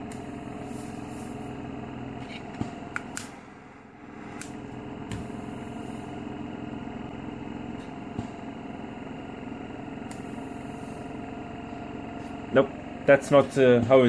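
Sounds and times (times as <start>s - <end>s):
compressor humming: 0.0s - 14.0s.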